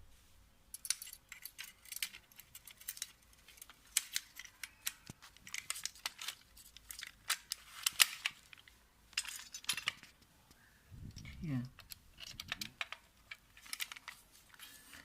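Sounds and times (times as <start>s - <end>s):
small metal parts clicking and scraping: 0.7s - 10.2s, 11.1s - 15.0s.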